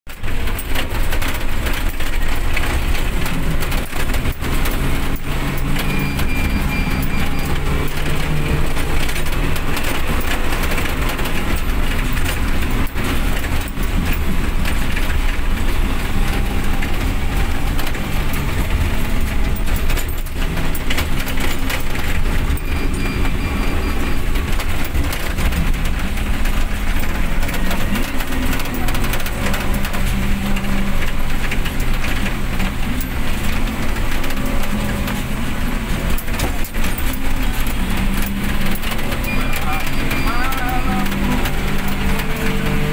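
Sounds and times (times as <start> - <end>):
engine and road noise in car: 0.1 - 42.9.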